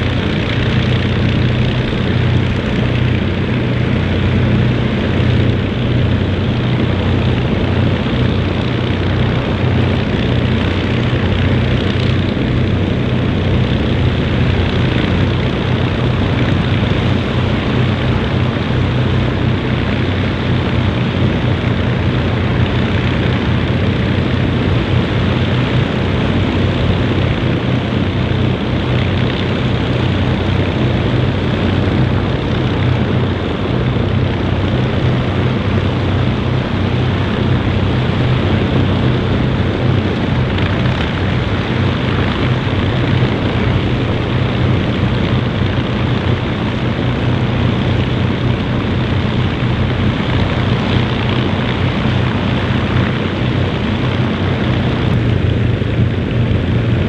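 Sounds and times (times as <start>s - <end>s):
aircraft engines droning: 0.0s - 57.0s.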